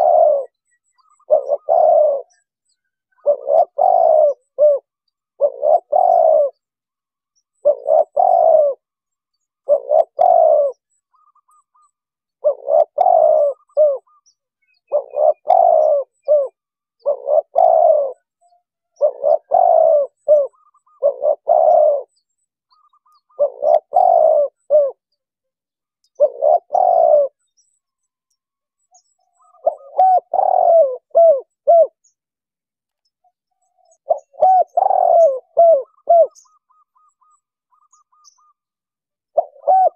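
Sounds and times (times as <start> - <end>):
dove cooing: 0.0 - 6.8, 7.4 - 25.2, 26.0 - 27.5, 28.9 - 32.2, 33.2 - 39.9.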